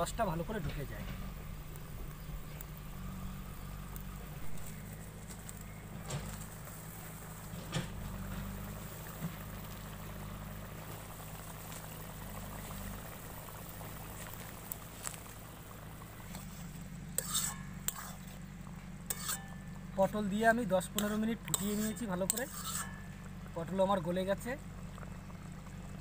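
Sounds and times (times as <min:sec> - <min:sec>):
curry bubbling in a metal pan: 0:00.0 - 0:26.0
low hum: 0:00.0 - 0:26.0.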